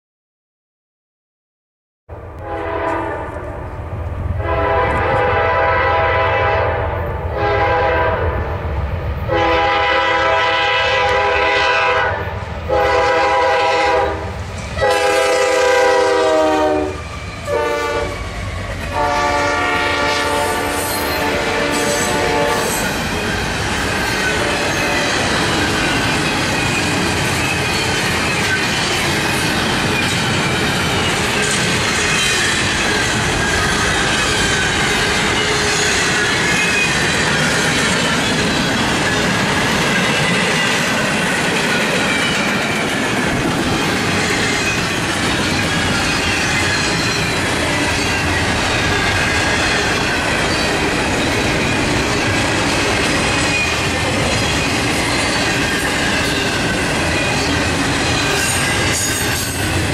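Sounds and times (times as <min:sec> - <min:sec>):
train wheels rumbling on rails: 0:02.4 - 0:59.9.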